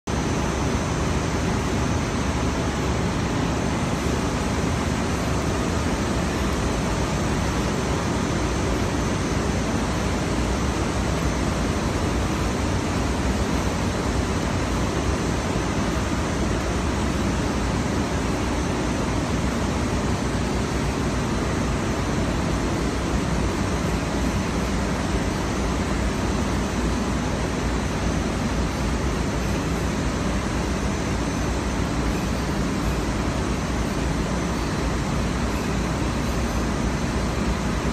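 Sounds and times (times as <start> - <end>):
cable production machinery running: 0.1 - 37.9.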